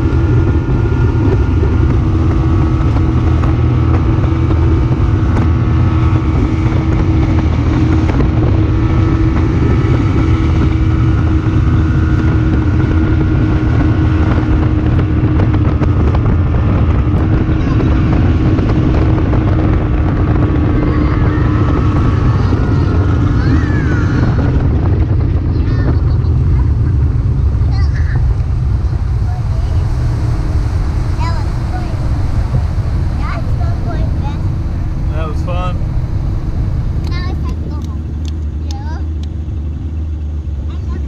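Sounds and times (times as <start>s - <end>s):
outboard motor running: 0.0s - 41.0s
wind buffeting microphone: 0.0s - 41.0s.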